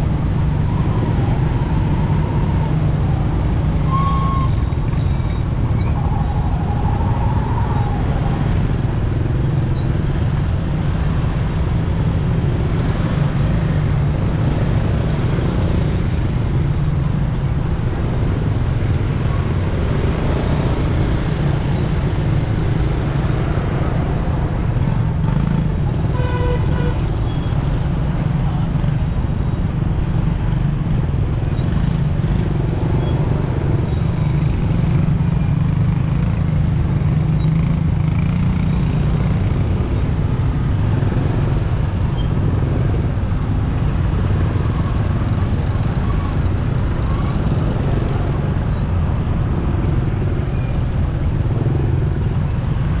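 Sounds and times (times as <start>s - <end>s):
motorcycle engine and road noise: 0.0s - 53.0s.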